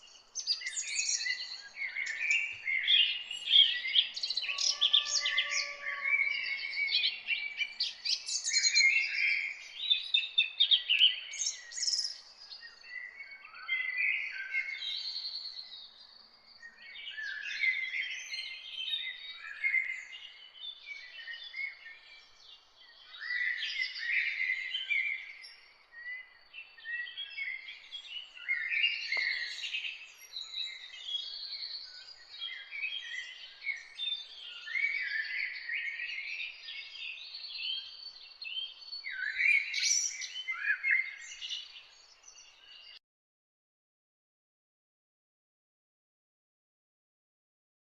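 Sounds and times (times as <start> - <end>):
birds chirping and singing: 0.0 - 43.0.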